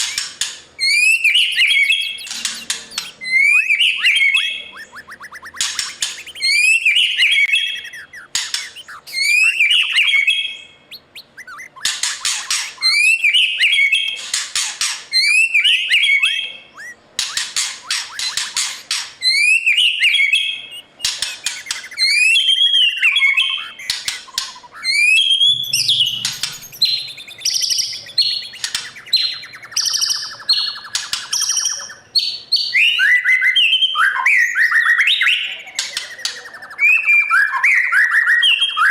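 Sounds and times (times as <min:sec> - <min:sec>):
bird singing whistled phrases: 0:00.0 - 0:14.2, 0:15.1 - 0:38.9.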